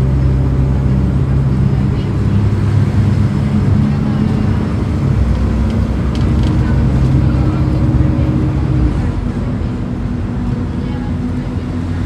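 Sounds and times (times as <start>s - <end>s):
diesel bus engine running: 0.0s - 12.0s.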